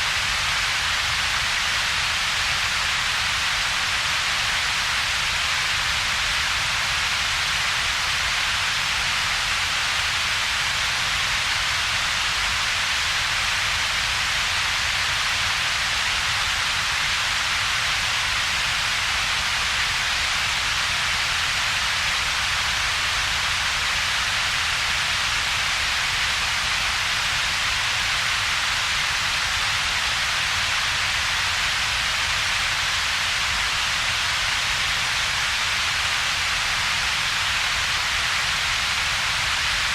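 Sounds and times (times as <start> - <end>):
steady synthetic hiss: 0.0 - 39.9.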